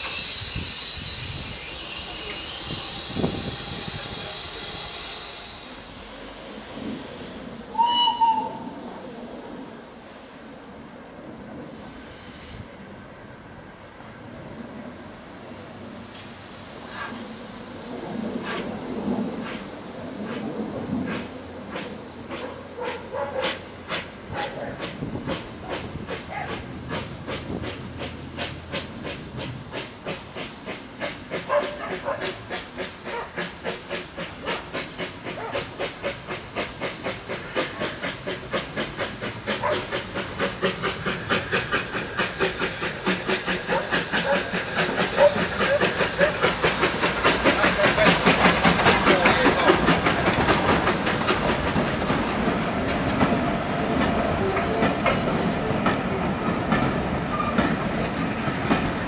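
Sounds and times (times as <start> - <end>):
steam locomotive exhaust beating: 0.0 - 8.8, 16.0 - 59.0
hiss of steam: 0.0 - 14.0, 15.1 - 59.0.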